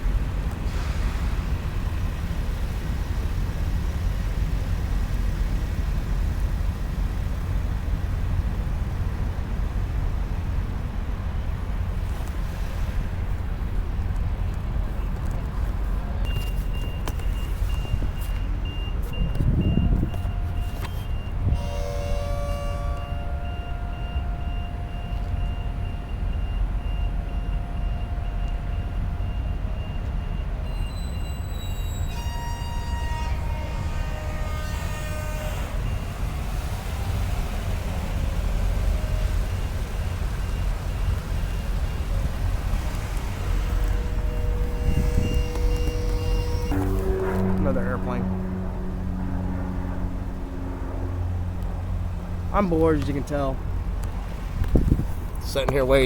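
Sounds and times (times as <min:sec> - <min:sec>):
motor vehicles rumbling: 0:00.0 - 0:32.2, 0:33.0 - 0:56.0.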